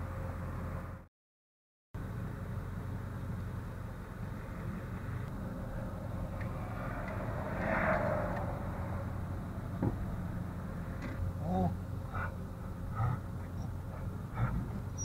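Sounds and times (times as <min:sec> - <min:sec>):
vehicle engine and road rumble: 0:00.0 - 0:01.1, 0:02.0 - 0:15.0.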